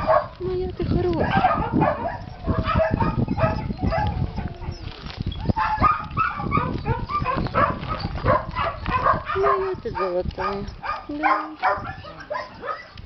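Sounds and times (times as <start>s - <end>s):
rustling: 0.0s - 13.0s
dog whining and yipping: 1.2s - 13.0s.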